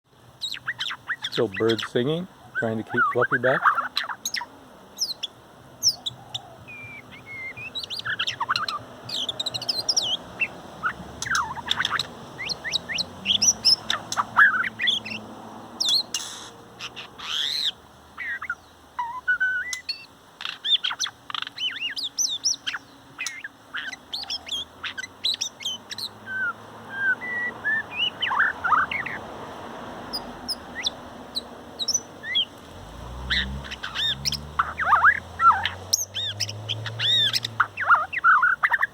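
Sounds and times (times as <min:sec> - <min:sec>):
bird singing whistles and chirps: 0:00.4 - 0:15.2, 0:15.8 - 0:29.2, 0:30.1 - 0:32.5, 0:33.2 - 0:38.9.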